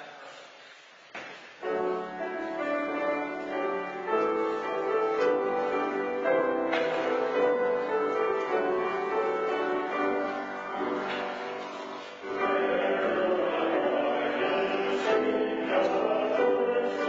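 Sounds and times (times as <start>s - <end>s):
piano chords and melody: 1.6s - 17.0s.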